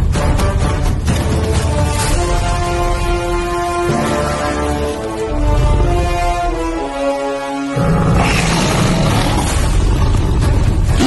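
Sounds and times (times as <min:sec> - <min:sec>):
film soundtrack music: 0:00.0 - 0:11.0.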